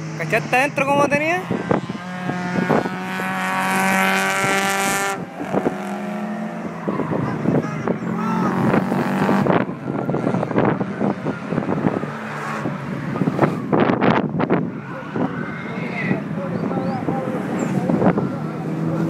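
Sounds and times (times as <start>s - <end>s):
race car engine revving: 0.0s - 19.0s
wind buffeting microphone: 0.0s - 19.0s.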